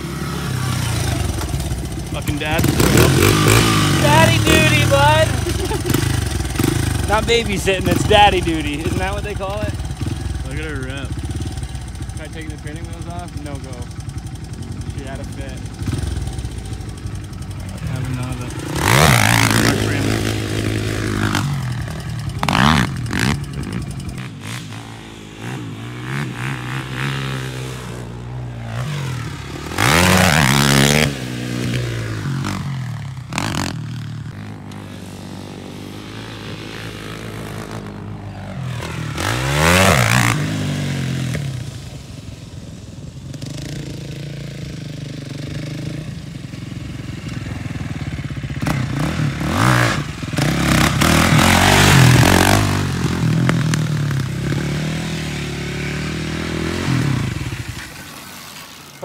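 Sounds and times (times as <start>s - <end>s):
quad engine revving: 0.0s - 42.2s, 43.4s - 59.0s.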